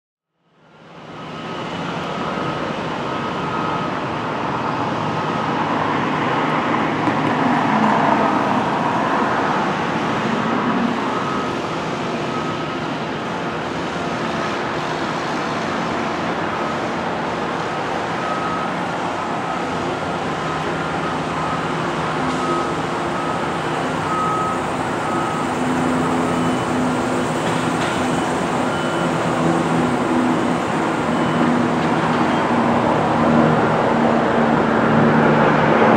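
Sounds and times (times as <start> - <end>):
traffic noise with engine hum: 0.4 - 35.9.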